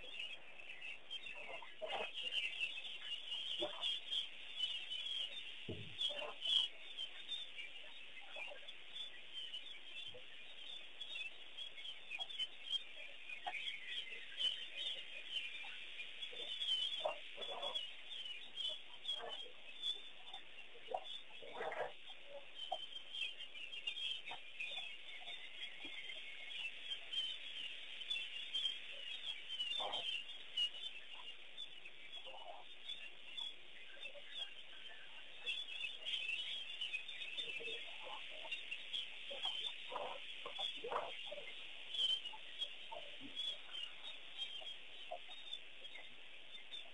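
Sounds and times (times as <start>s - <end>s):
lower bird calls: 0.0s - 46.9s
small birds chirping: 0.0s - 46.9s.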